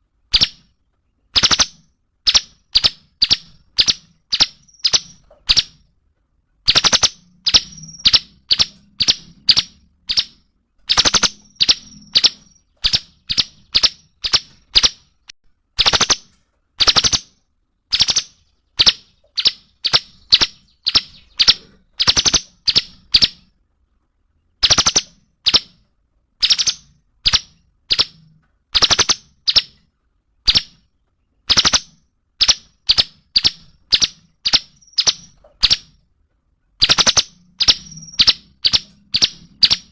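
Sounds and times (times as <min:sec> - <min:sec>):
songbird calling sharp notes: 0:00.0 - 0:05.9, 0:06.6 - 0:23.6, 0:24.4 - 0:36.0, 0:36.8 - 0:39.9.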